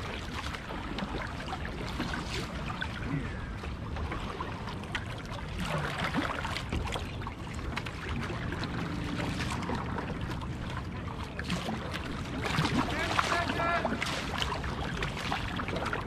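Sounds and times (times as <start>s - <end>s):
paddle blades splashing: 0.0s - 16.0s
water washing around kayak: 0.0s - 16.0s.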